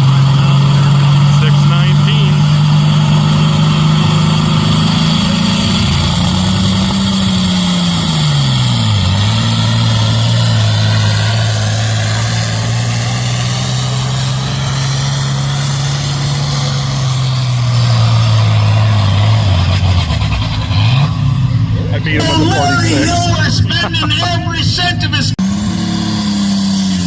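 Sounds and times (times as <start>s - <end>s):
tractor diesel engine labouring: 0.0s - 27.0s.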